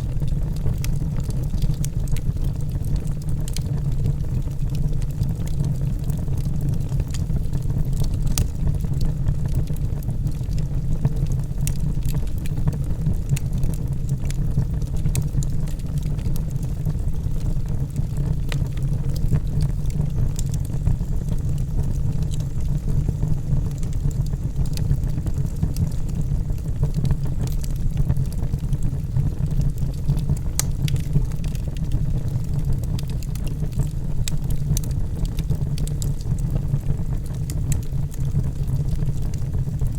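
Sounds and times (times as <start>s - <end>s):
fire crackles and pops: 0.0s - 39.9s
flames rumbling: 0.0s - 39.9s.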